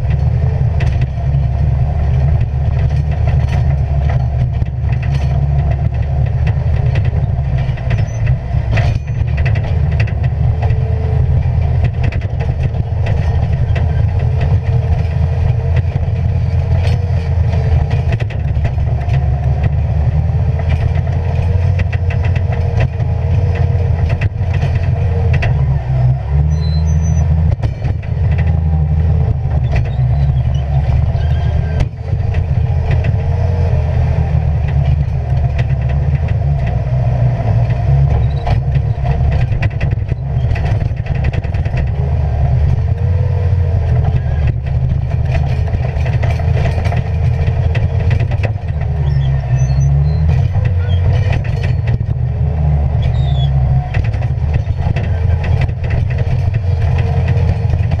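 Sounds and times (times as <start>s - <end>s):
clicks and rattles: 0.0s - 58.0s
diesel engine running hard: 0.0s - 58.0s.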